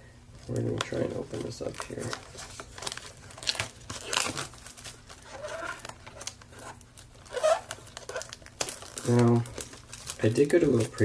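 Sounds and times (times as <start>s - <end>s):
cellophane crinkling and tearing: 0.4s - 11.0s.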